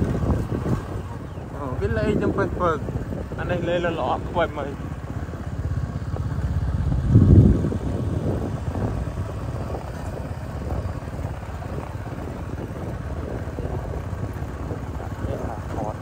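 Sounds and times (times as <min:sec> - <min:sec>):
small motorcycle engine running: 0:00.0 - 0:16.0
wind on microphone: 0:00.0 - 0:16.0.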